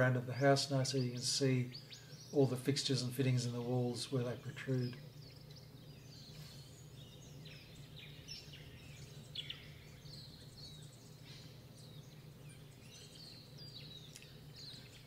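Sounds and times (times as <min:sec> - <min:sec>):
faint birds chirping: 0:00.0 - 0:15.0
steady low hum: 0:00.0 - 0:15.0.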